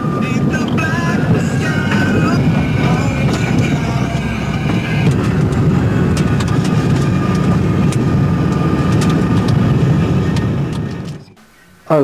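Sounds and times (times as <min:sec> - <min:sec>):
engine and tyre rumble: 0:00.0 - 0:11.4.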